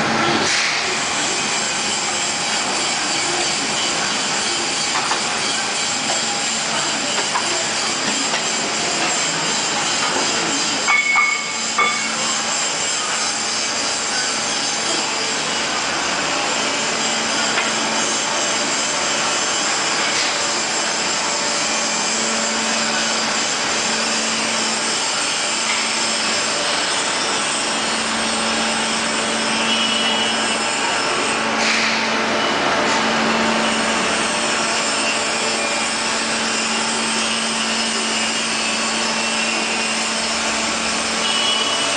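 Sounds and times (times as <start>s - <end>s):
end grinder grinding: 0.8s - 41.9s.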